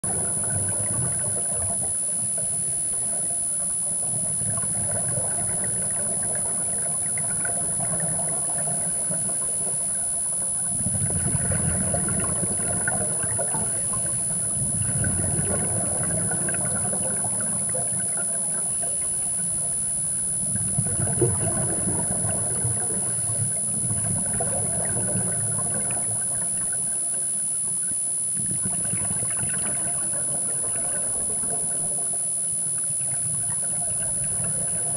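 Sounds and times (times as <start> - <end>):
regulator bubbles rushing: 0.0 - 34.9
steady high whine: 0.0 - 34.9.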